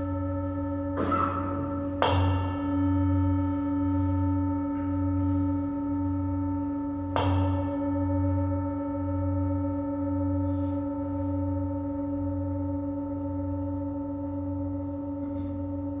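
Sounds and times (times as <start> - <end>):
singing bowl struck and ringing: 0.0 - 13.6.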